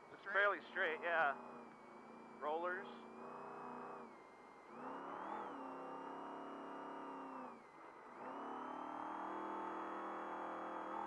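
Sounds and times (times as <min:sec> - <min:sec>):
truck engine revving: 0:00.9 - 0:11.0.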